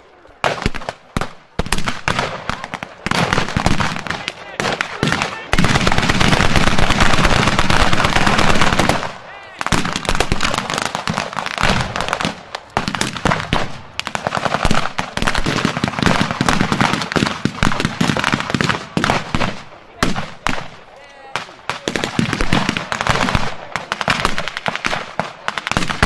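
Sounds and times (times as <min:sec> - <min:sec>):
rifles and machine guns firing: 0:00.4 - 0:26.0.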